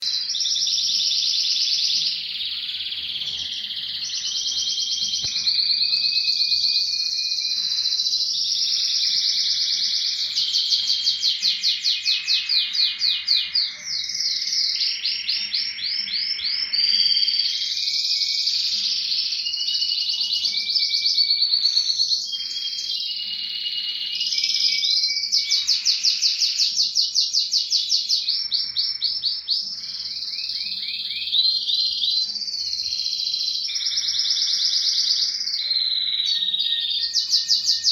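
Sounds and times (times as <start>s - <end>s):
canary singing trills: 0.0s - 37.9s.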